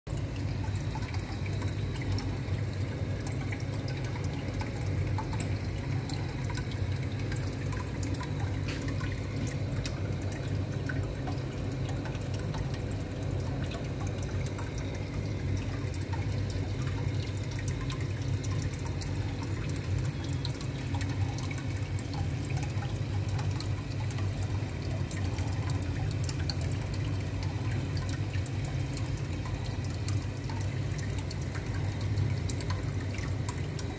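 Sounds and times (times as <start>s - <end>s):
steady low hum: 0.1s - 33.9s
water trickling and bubbling: 0.1s - 33.9s.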